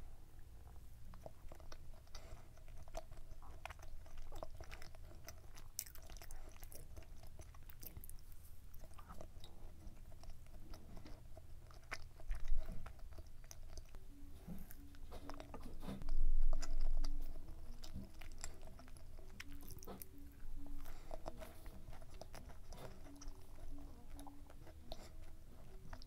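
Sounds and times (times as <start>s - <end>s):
chewing a chewy muffin: 0.0s - 26.0s.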